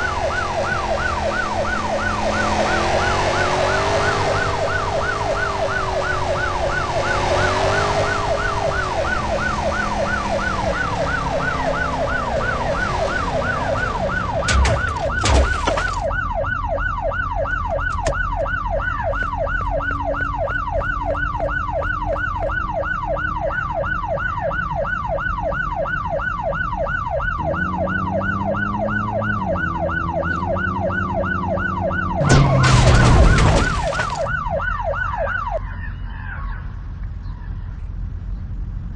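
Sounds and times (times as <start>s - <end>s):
warbling siren: 0.0s - 36.7s.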